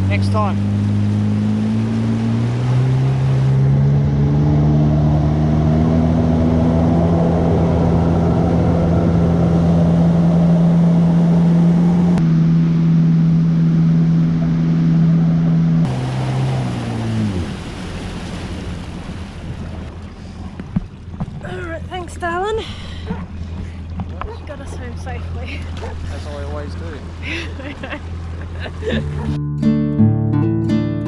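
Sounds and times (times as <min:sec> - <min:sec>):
jet ski engine: 0:00.0 - 0:29.4.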